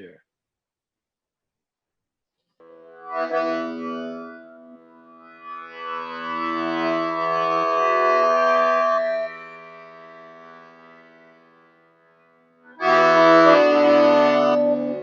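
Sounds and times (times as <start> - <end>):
instrumental music of held chords: 2.6 - 15.0.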